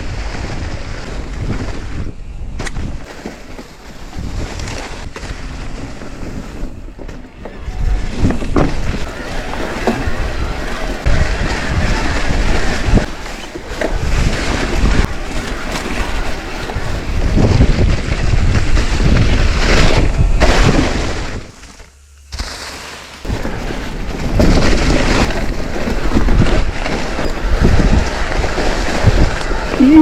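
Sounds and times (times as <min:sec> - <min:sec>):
mountain bike rumble and knocks: 0:00.0 - 0:22.6, 0:23.2 - 0:30.0
wind buffeting microphone: 0:03.8 - 0:21.5, 0:23.2 - 0:30.0.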